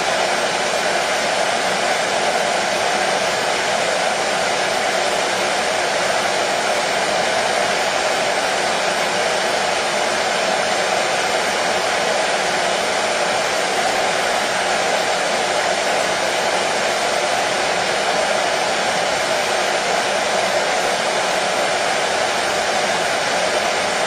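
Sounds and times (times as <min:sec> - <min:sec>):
hair dryer blowing: 0:00.0 - 0:24.0.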